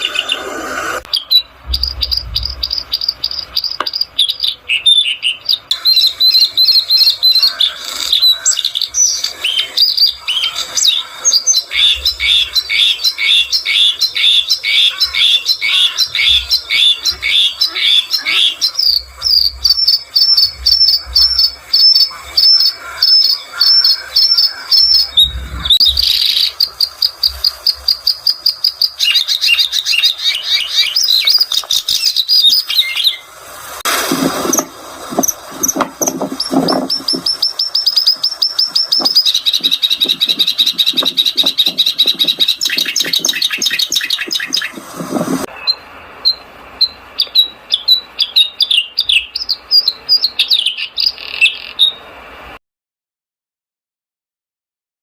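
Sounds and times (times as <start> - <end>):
bird singing trills: 0.0 - 33.3, 34.5 - 44.8, 45.4 - 52.0.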